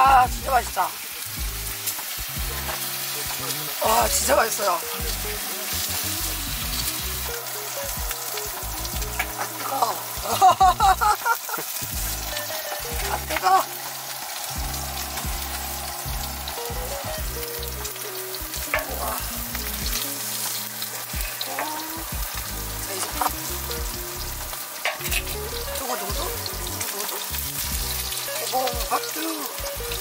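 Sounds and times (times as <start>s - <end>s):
food sizzling in a hot pan: 0.0s - 30.0s.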